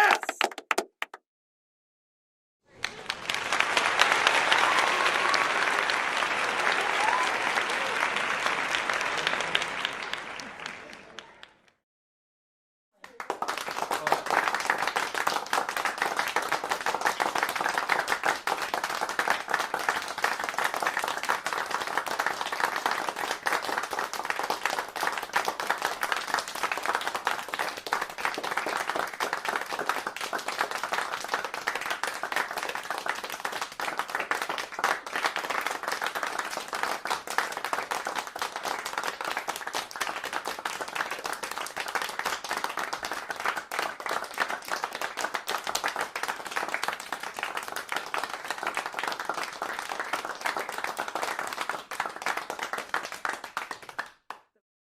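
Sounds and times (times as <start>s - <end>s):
crowd applauding: 0.0s - 1.2s, 2.7s - 11.7s, 13.0s - 54.5s.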